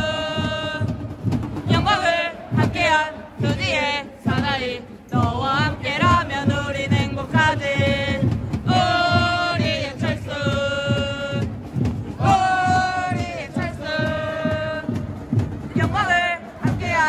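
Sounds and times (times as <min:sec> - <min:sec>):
man singing over loudspeakers: 0:00.0 - 0:01.0, 0:01.7 - 0:11.6, 0:12.2 - 0:17.0
backing track with steady beat: 0:00.0 - 0:17.0
faint crowd noise: 0:00.0 - 0:17.0.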